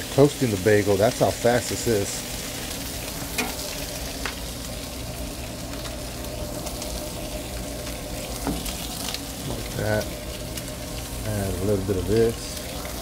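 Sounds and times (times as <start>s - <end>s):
bacon sizzling on a griddle: 0.0s - 13.0s.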